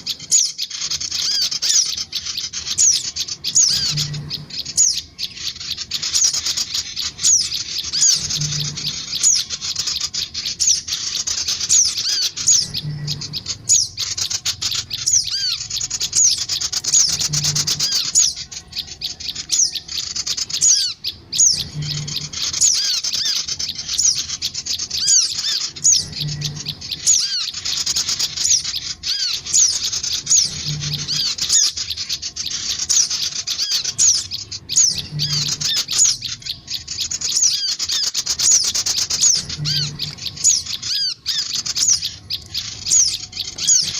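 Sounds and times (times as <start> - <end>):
birds chirping rapidly: 0.0 - 43.9.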